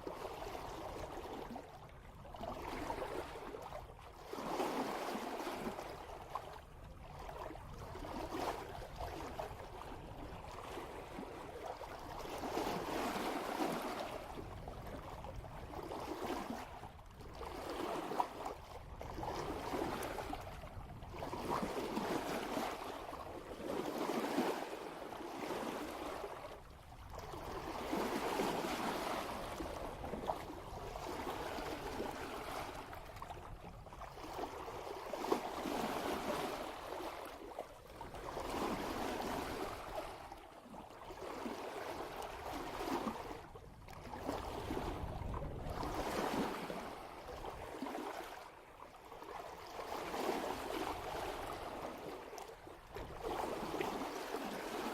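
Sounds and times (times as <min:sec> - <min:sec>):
water splashing at boat bow: 0:00.0 - 0:54.9.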